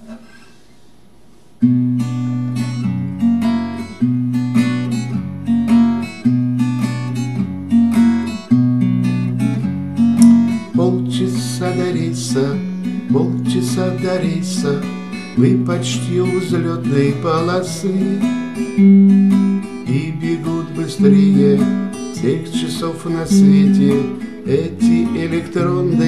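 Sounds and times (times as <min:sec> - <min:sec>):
acoustic guitar strumming: 0:01.6 - 0:26.0.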